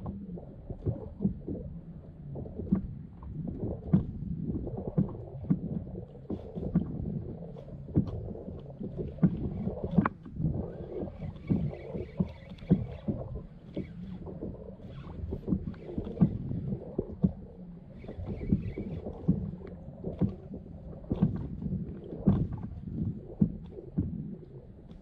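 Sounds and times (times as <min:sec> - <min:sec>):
water slapping against kayak hull: 0:02.4 - 0:25.0.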